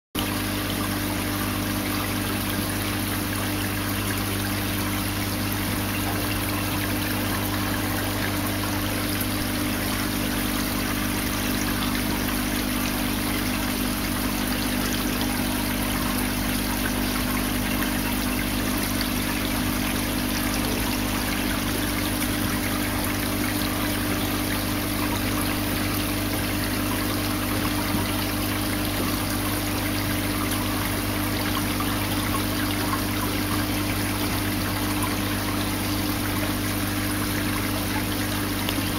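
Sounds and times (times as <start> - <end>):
pump low hum: 0.2 - 38.9
trickling water: 0.2 - 38.9.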